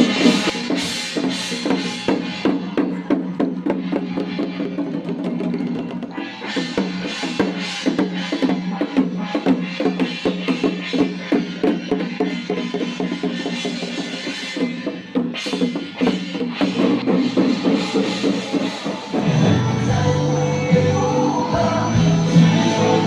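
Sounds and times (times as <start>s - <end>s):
drum and percussion music: 0.0s - 23.0s.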